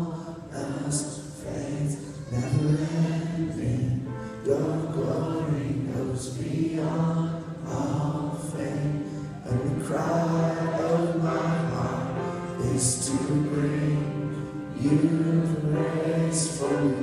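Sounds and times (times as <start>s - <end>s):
person singing: 0.0s - 17.0s
worship band playing slow song: 0.0s - 17.0s.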